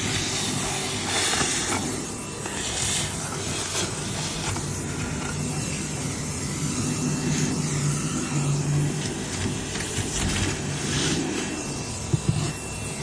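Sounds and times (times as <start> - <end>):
rushing hiss of air: 0.0 - 6.0, 6.6 - 12.6
vacuum motor hum: 0.0 - 13.0.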